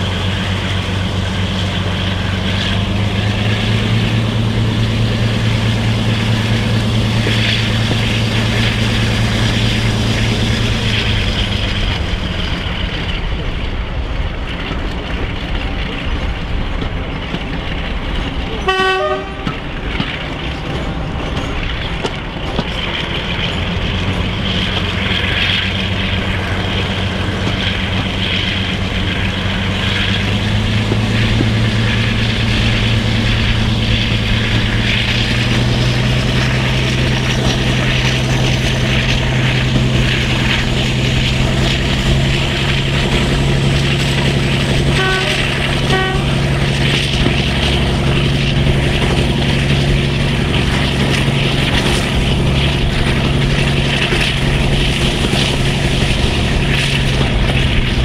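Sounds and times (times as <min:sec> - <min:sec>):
diesel engine drone: 0:00.0 - 0:58.0
train rushing noise: 0:00.0 - 0:58.0.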